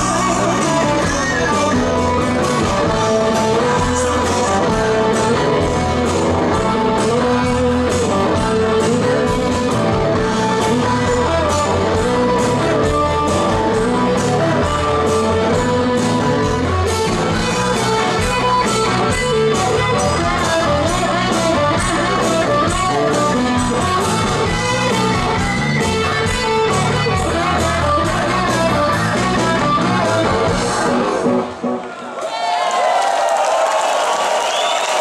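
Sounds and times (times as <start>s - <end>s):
electric guitar: 0.0s - 32.1s
rock band playing loud: 0.0s - 32.1s.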